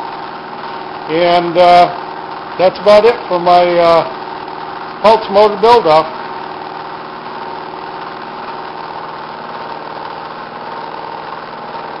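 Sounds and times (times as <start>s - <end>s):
pulse motor humming: 0.0s - 12.0s.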